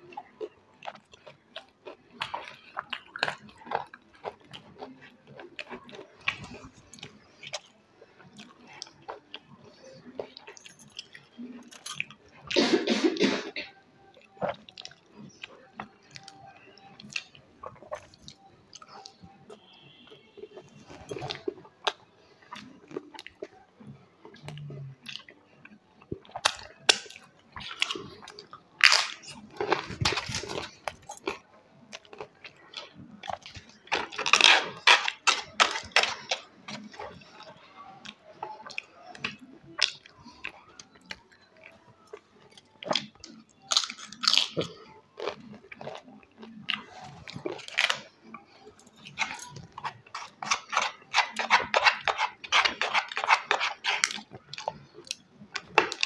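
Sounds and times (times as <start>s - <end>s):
person chewing crunchy food: 0.0s - 23.6s, 24.2s - 56.0s.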